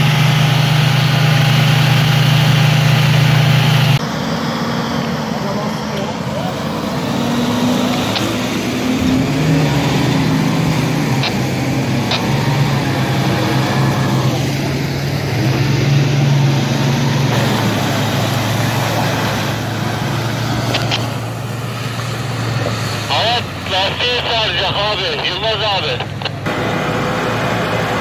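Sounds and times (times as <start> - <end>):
pickup truck engine under load: 0.0 - 24.9, 25.8 - 28.0.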